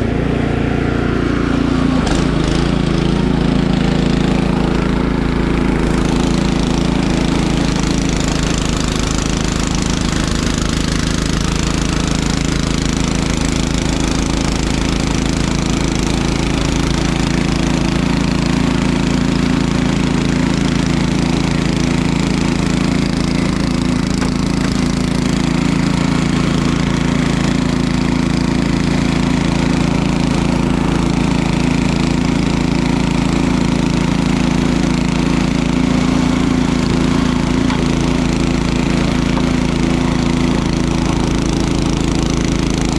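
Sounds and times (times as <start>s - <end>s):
small engine chugging: 1.1s - 42.9s.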